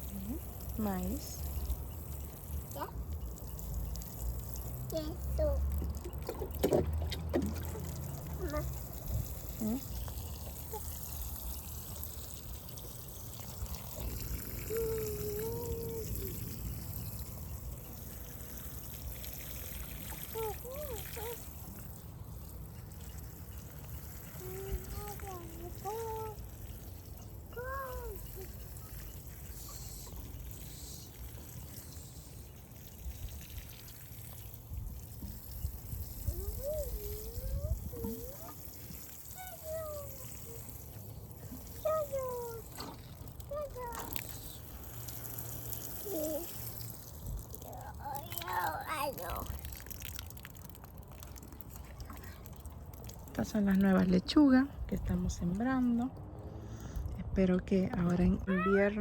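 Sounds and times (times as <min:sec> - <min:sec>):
water pouring and trickling: 0:00.0 - 0:59.0.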